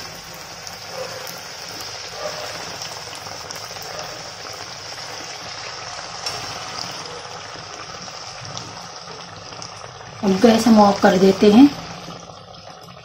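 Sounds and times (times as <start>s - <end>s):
deep-frying sizzle in oil: 0.0s - 13.0s
faint oil crackles: 0.0s - 13.0s.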